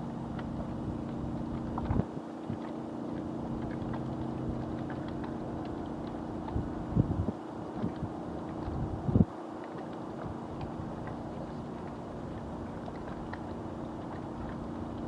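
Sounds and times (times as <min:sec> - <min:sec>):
low engine hum: 0:00.0 - 0:15.0
small waves lapping on shore: 0:00.0 - 0:15.0.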